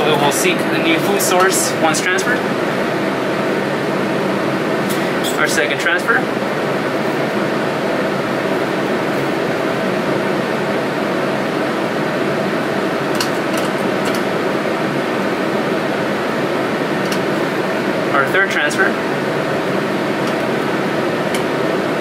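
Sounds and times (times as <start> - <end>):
fan running: 0.0 - 22.0.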